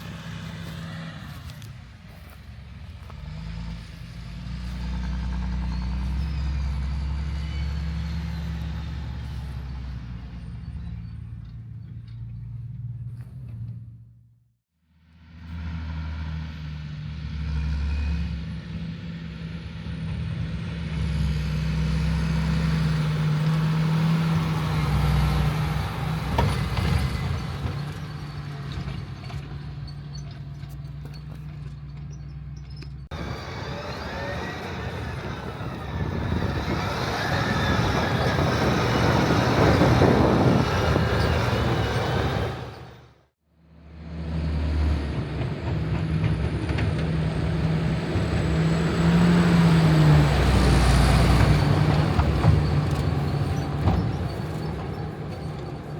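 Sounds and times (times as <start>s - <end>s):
tractor diesel engine running: 0.0s - 14.2s, 15.5s - 55.9s.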